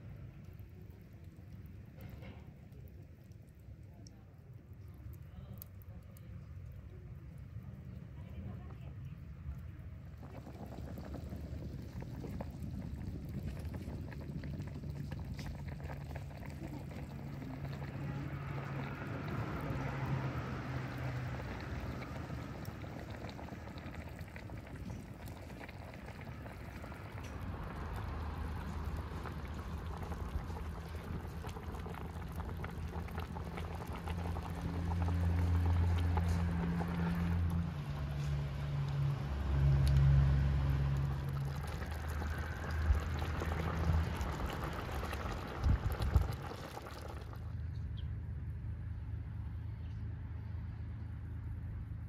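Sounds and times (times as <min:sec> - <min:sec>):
fire crackling: 0:00.0 - 0:47.5
sauce bubbling in a pan: 0:00.0 - 0:47.7.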